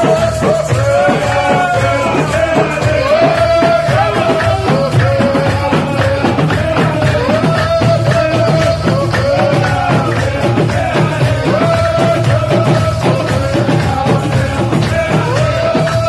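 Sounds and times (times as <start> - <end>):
frame drums beating: 0.0 - 16.0
men chanting in chorus: 0.0 - 16.0.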